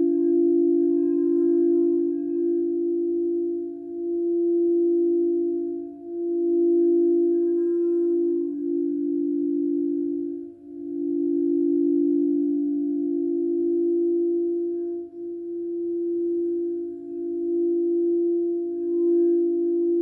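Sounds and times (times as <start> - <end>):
crystal singing bowls ringing: 0.0 - 20.0.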